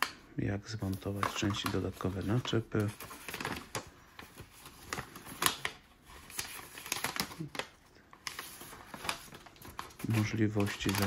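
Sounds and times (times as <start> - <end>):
paper leaflet rustling: 0.8 - 11.0.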